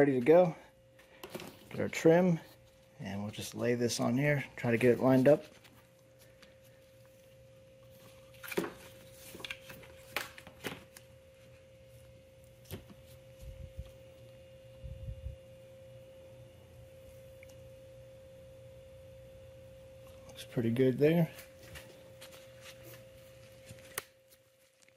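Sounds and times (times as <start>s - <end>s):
faint steady hum: 0.0s - 24.9s.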